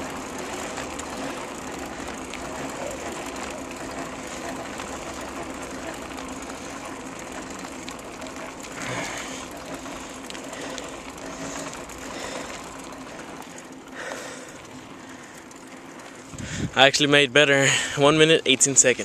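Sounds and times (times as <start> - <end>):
bike chain rattling and clicking: 0.0 - 19.0
tyre noise on pavement: 0.0 - 19.0.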